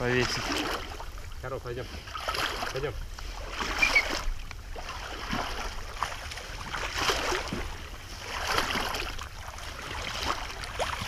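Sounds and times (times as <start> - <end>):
water sloshing around wading legs: 0.0 - 11.0.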